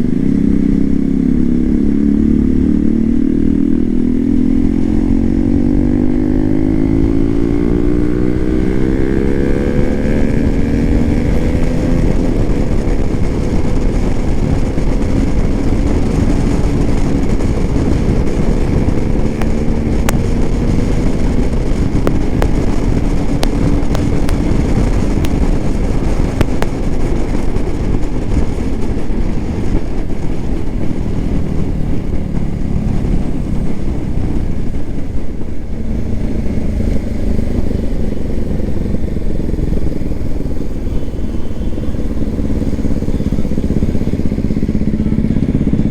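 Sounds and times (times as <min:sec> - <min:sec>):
motorcycle engine accelerating: 0:00.0 - 0:45.9
rush of noise: 0:00.0 - 0:45.9.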